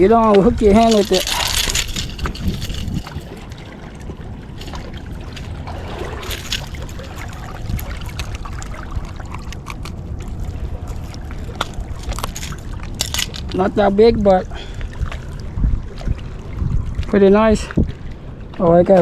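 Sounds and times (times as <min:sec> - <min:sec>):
water sloshing and trickling: 0:00.0 - 0:19.0
wind rumble on microphone: 0:00.0 - 0:19.0.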